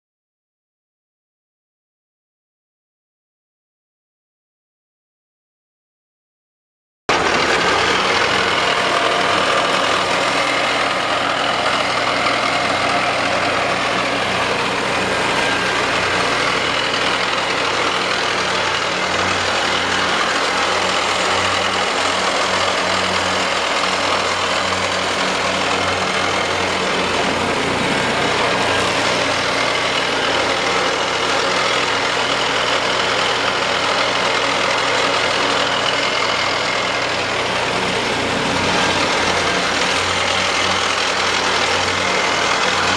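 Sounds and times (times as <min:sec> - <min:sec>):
mower engine running: 0:07.1 - 0:42.9.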